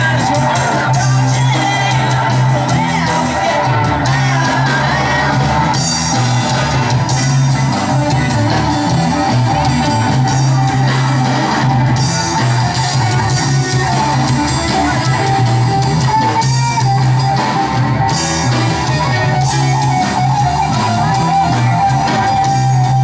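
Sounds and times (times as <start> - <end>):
bass line: 0.0 - 23.0
electric guitar: 0.0 - 23.0.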